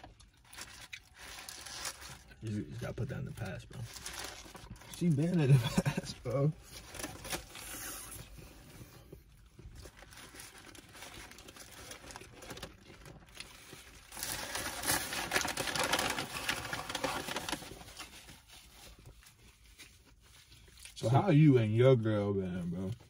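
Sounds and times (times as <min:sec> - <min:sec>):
paper wrapper crinkling: 0:00.0 - 0:08.4, 0:09.3 - 0:21.1.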